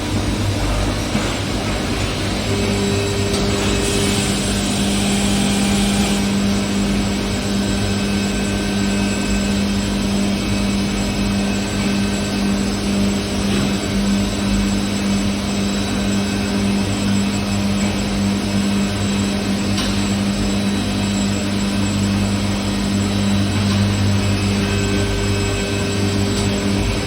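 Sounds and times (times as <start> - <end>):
machining center humming: 0.0 - 27.0.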